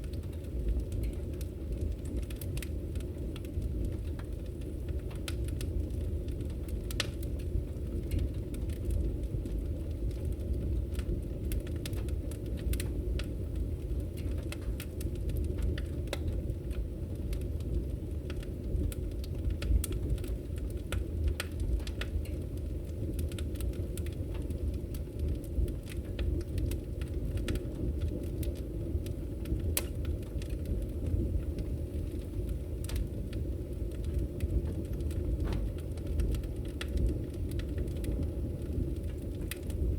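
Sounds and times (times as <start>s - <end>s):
fire crackles and pops: 0.0s - 39.9s
fire rumbling: 0.0s - 39.9s.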